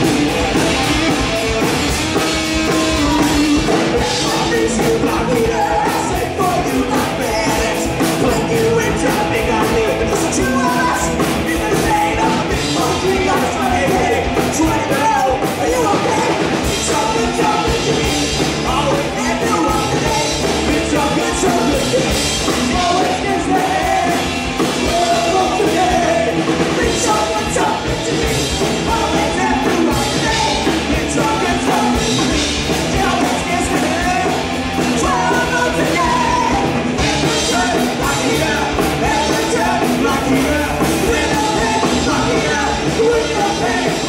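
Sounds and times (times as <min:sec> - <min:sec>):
live punk rock band: 0:00.0 - 0:44.0
man and woman singing and yelling: 0:00.0 - 0:44.0.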